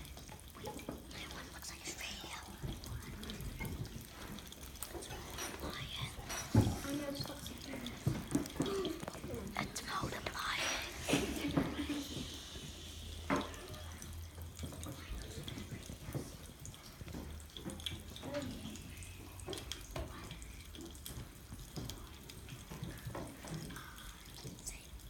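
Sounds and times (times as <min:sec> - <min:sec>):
fizzy drink bubbles popping: 0:00.0 - 0:25.0.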